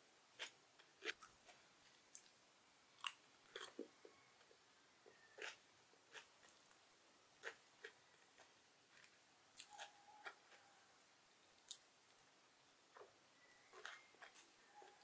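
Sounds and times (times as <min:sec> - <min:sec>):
soft chewing: 0:00.3 - 0:02.4, 0:03.0 - 0:12.3, 0:12.9 - 0:15.0.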